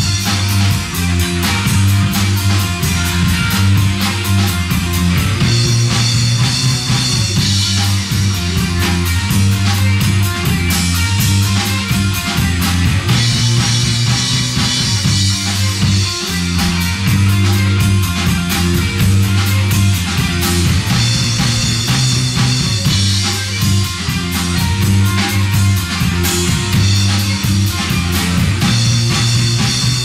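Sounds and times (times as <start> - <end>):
band playing with guitar and drums: 0.0 - 30.0
drum and cymbal hits: 0.0 - 30.0
low bass line: 0.0 - 30.0.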